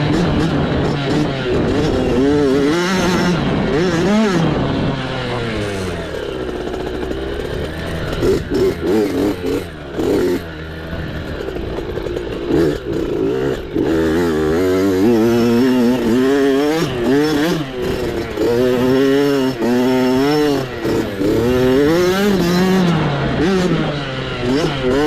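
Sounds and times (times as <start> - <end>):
mini bike engine revving: 0.0 - 25.0.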